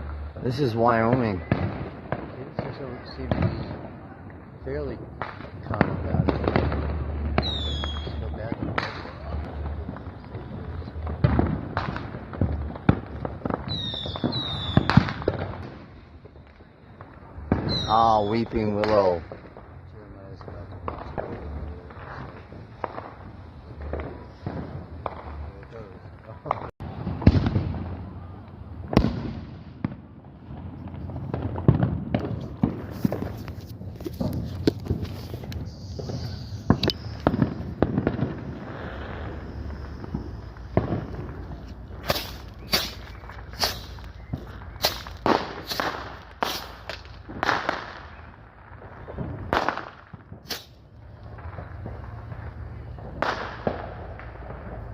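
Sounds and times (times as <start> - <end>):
fireworks bangs with rumble: 0.0 - 54.9
fireworks crackling pops: 0.0 - 54.9.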